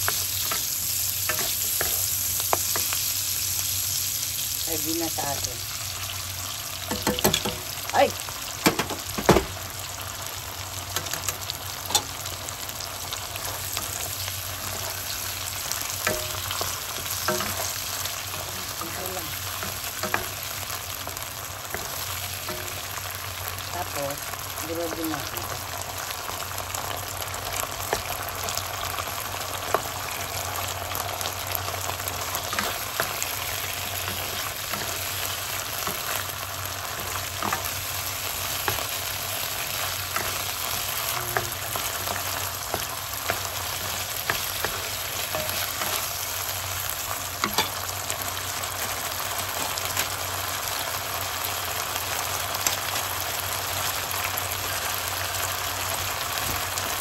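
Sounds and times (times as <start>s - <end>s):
fish and onions sizzling in a pan: 0.0s - 57.0s.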